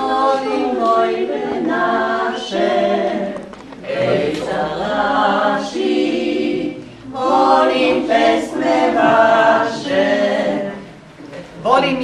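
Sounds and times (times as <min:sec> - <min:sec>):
women's vocal group singing: 0:00.0 - 0:11.6.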